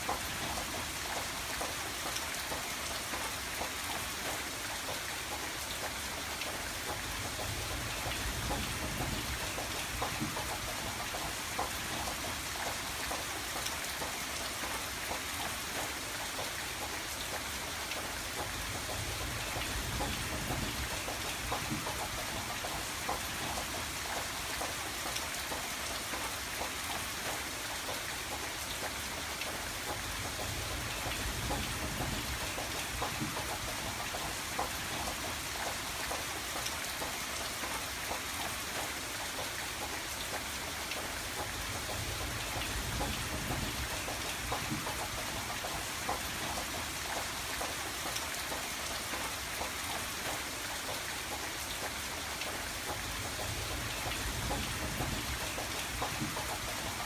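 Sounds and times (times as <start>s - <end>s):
rain tapping on a window: 0.0s - 57.0s.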